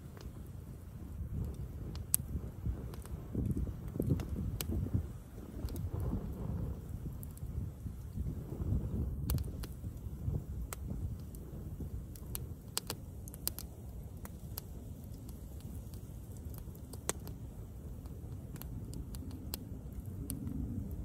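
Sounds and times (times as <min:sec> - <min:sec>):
campfire wood crackling: 0:00.0 - 0:21.0
low fire rumble: 0:00.0 - 0:21.0.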